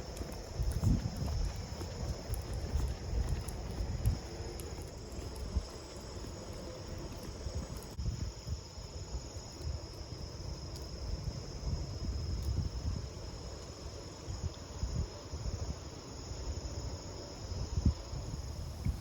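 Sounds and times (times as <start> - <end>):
wind buffeting microphone: 0.0 - 13.5, 14.3 - 19.0
high-pitched insect trill: 0.0 - 19.0.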